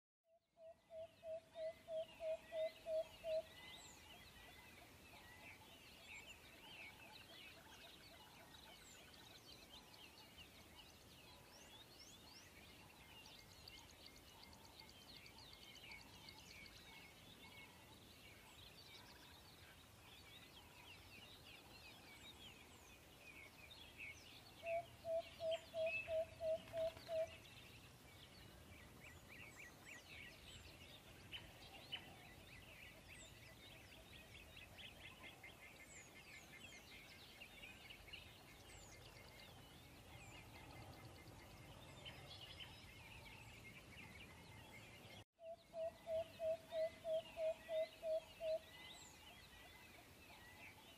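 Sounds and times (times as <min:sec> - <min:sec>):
small birds chirping: 0:00.6 - 0:50.9.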